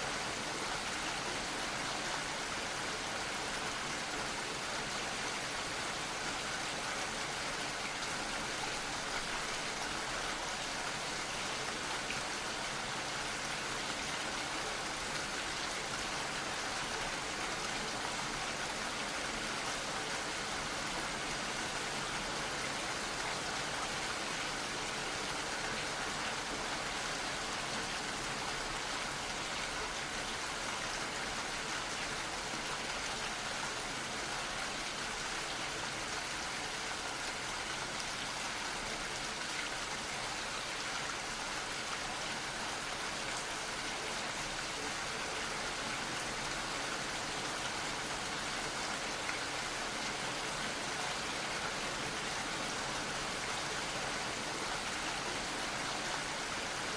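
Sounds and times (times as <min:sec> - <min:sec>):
gentle rain hissing: 0:00.0 - 0:56.9.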